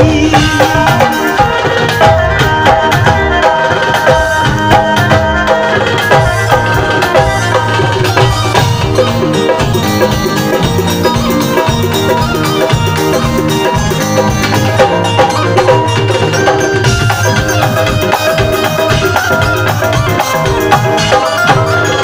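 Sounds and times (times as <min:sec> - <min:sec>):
keyboard melody: 0:00.0 - 0:22.0
tabla and drums rhythm: 0:00.0 - 0:22.0.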